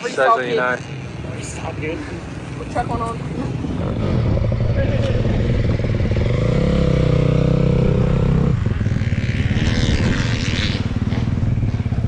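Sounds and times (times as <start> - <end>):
dirt bike engine revving: 1.2 - 12.0.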